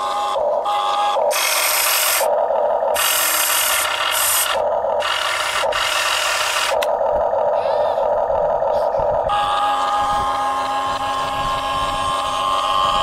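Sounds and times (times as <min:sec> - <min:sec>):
toy excavator motors whirring: 0:00.0 - 0:13.0.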